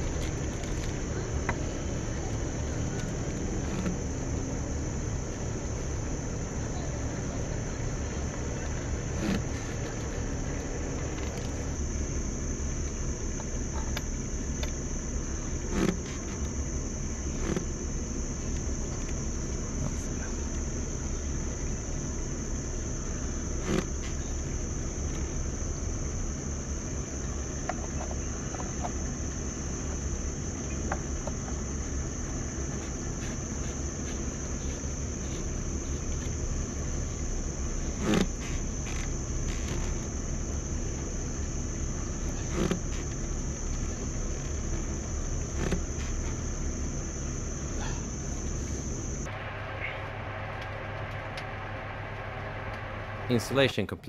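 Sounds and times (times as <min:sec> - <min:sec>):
high-pitched insect drone: 0:00.0 - 0:50.1
low outdoor rumble: 0:00.0 - 0:54.0.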